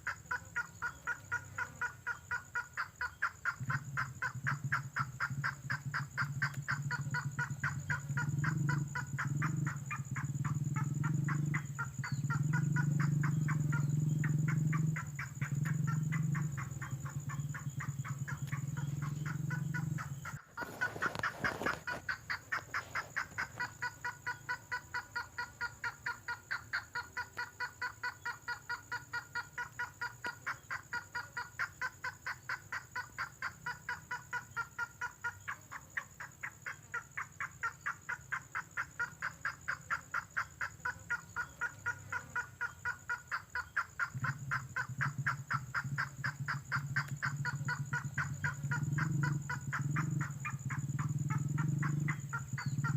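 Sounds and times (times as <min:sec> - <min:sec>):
repeated bird call notes: 0:00.0 - 0:52.9.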